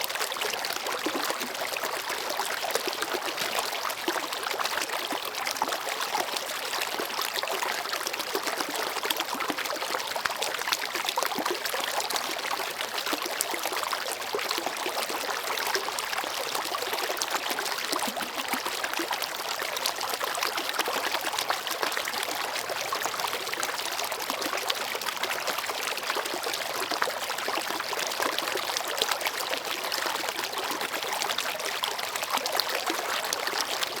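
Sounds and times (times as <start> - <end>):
stream babbling over stones: 0.0 - 34.0.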